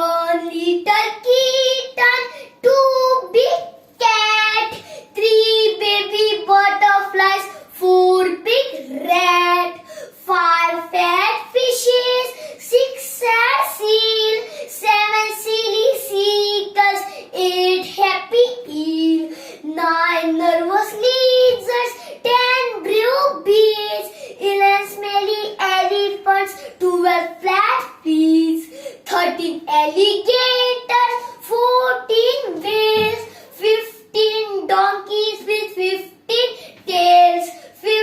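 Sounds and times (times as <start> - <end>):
young child sing-song reciting: 0.0 - 38.0.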